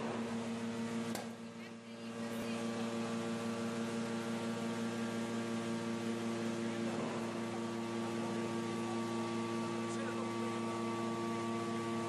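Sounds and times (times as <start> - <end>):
higher machine whine: 0.0 - 12.0
press machine hum: 0.0 - 12.0.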